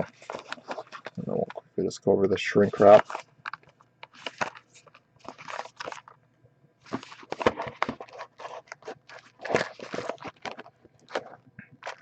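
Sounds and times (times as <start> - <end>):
plastic shrink wrap crinkling: 0.0 - 1.8, 2.4 - 6.2, 6.8 - 12.0.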